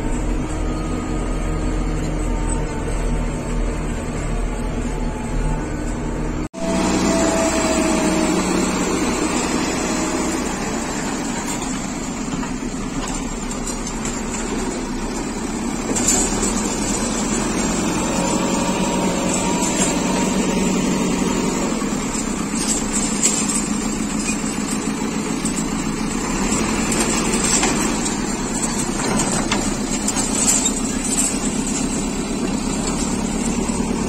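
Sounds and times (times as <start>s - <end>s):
diesel engine running: 0.0s - 34.0s
loader bucket working scrap wire: 0.0s - 34.0s.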